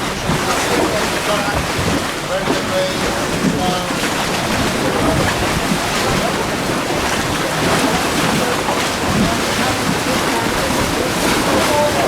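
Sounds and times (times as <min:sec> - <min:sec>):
sea water around boat: 0:00.0 - 0:12.0
wind noise on microphone: 0:00.0 - 0:12.0.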